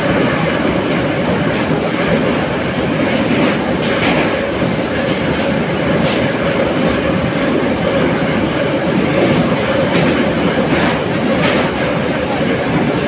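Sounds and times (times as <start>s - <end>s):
metro car rumbling through tunnel: 0.0s - 13.0s.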